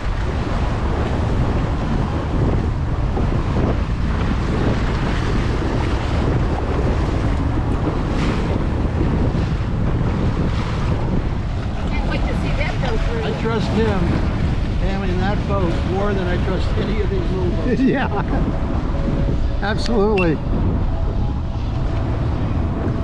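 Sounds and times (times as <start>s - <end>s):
boat moving on water: 0.0s - 23.0s
wind buffeting microphone: 0.0s - 23.0s.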